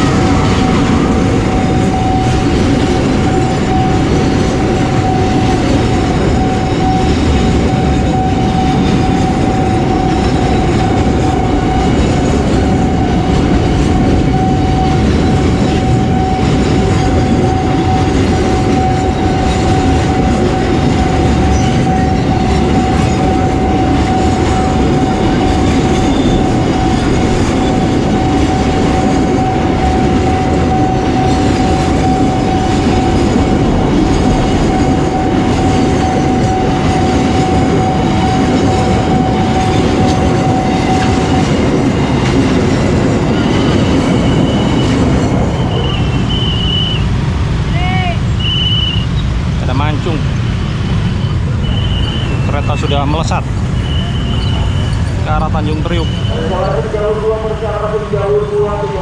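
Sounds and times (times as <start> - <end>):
train wheels clattering over rails: 0.0 - 59.0.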